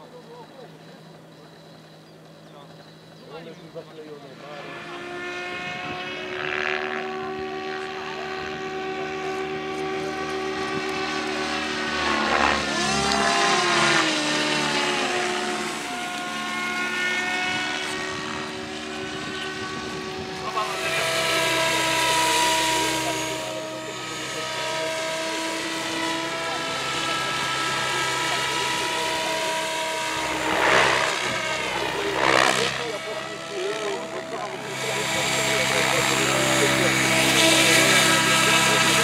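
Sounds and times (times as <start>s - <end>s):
model aircraft motors whining: 0.0s - 39.0s
model helicopter rotor: 0.0s - 39.0s.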